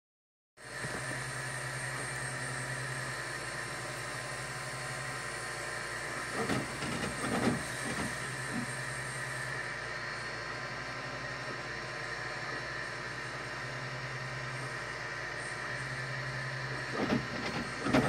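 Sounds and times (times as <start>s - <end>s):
cooling fan hum: 0.6s - 18.0s
stepper motor whine: 0.6s - 18.0s.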